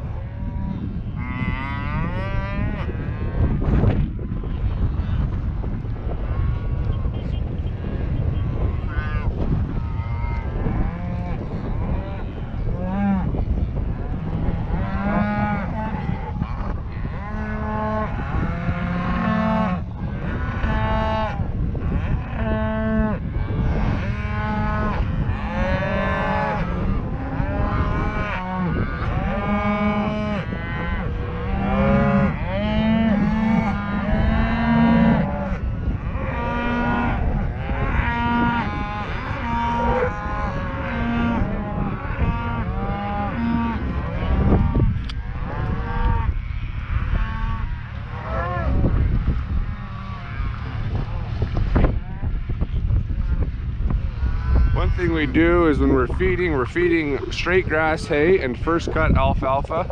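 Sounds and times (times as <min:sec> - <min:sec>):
cows and calves mooing: 0:00.0 - 0:59.3.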